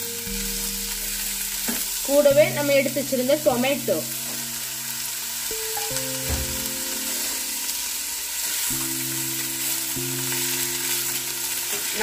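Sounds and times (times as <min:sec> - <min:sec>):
soft background music: 0:00.0 - 0:12.0
vegetables sizzling in a pan: 0:00.0 - 0:12.0.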